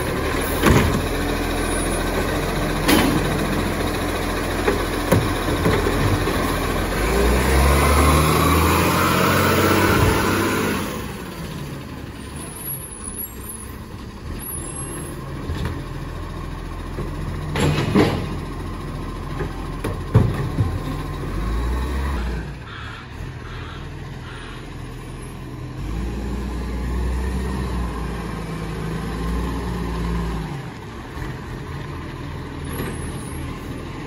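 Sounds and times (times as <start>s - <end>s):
garbage truck diesel engine: 0.0s - 34.0s.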